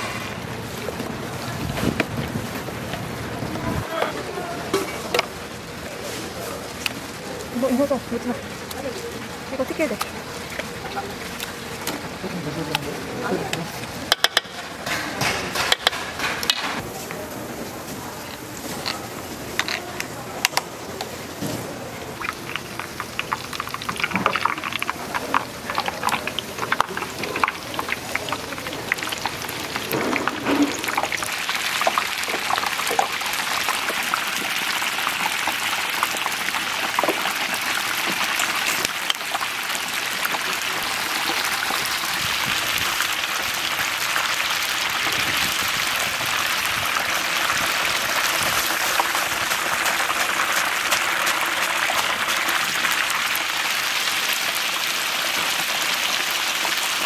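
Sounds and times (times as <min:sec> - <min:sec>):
food deep-frying in hot oil: 0:00.0 - 0:04.1, 0:05.0 - 0:57.0
oil popping and crackling: 0:00.0 - 0:04.1, 0:04.7 - 0:16.8, 0:18.0 - 0:57.0.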